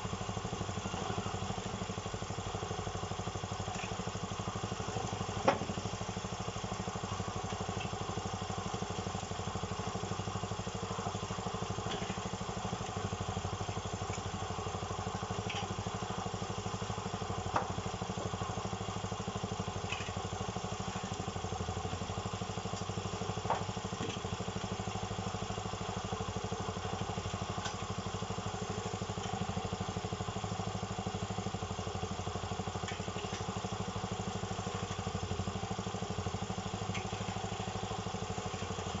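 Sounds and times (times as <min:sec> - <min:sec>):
cement mixer running: 0:00.0 - 0:39.0.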